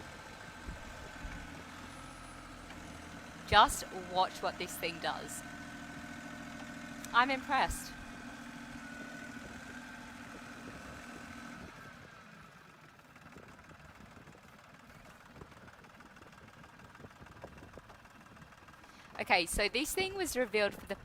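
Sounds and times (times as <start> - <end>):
engine whine: 0.0 - 21.0
tractor engine running: 0.0 - 21.0.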